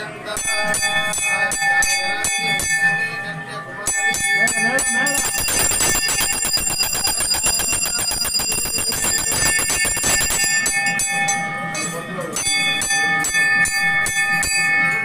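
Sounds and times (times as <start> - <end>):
temple bells ringing rapidly: 0.0 - 15.0.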